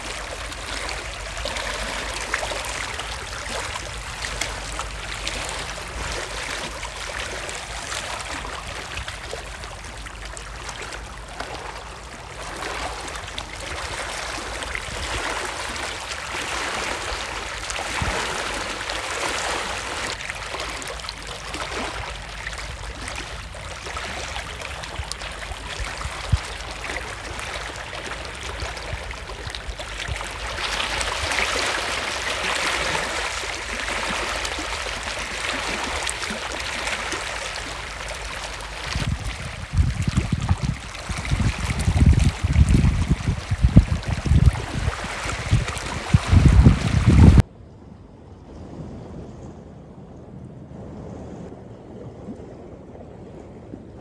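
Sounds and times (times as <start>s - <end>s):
waves washing over rocks: 0.0s - 47.4s.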